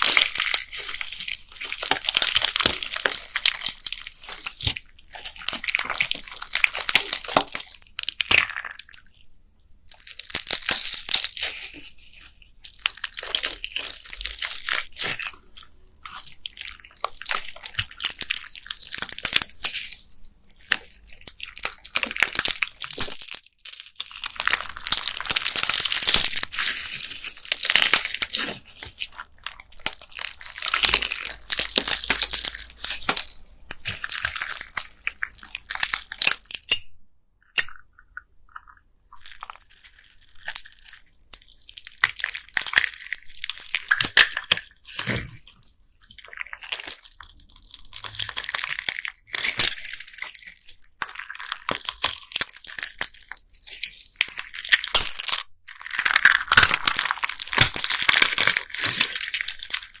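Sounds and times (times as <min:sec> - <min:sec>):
bead slime crunchy crackling: 0:00.0 - 0:08.9, 0:10.0 - 0:36.8, 0:46.2 - 1:00.0.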